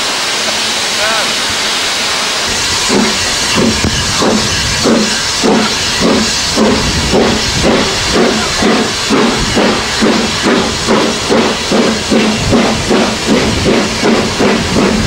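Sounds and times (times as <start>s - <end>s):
steam hiss: 0.0s - 15.0s
steam locomotive exhaust chuffs: 0.0s - 15.0s.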